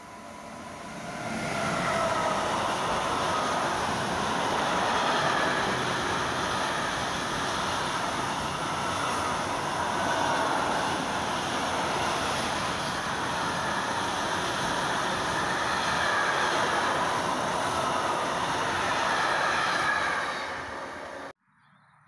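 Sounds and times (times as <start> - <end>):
wagon wheels rumbling on rails: 0.5 - 21.3.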